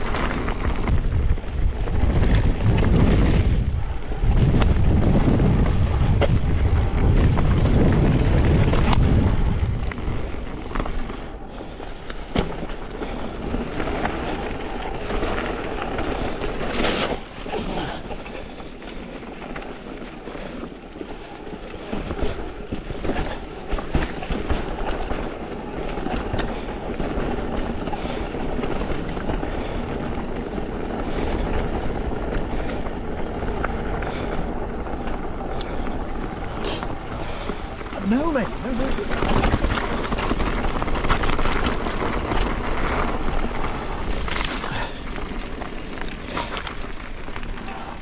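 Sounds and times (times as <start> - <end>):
tyre and wind rush: 0.0 - 18.7, 21.4 - 48.0
bike rattling over stones: 0.0 - 48.0.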